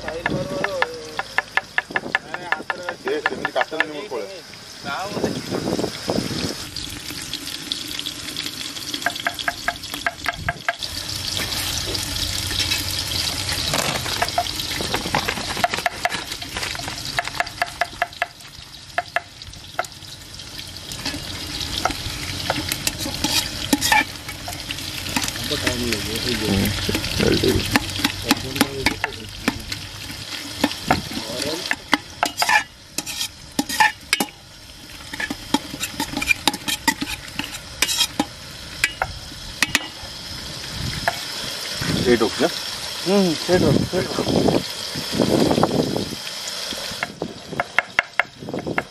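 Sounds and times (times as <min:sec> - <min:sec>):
onions sizzling in oil: 0:00.0 - 0:48.9.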